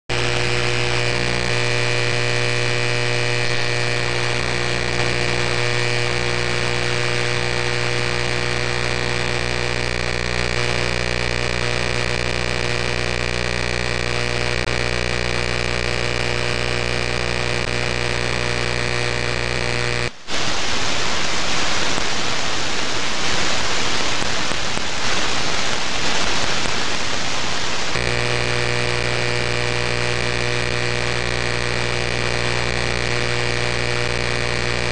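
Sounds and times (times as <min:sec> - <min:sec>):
harsh radio buzz: 0:00.0 - 0:34.9
low hum: 0:00.1 - 0:34.9
radio hiss: 0:00.1 - 0:34.9.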